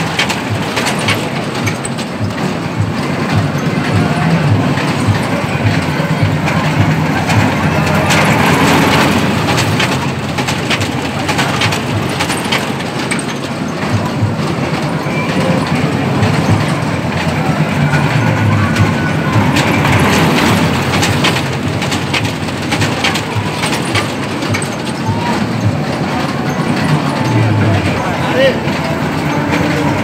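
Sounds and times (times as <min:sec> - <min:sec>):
ride train motor drone: 0:00.0 - 0:30.0
wheels clattering on rails: 0:00.0 - 0:30.0.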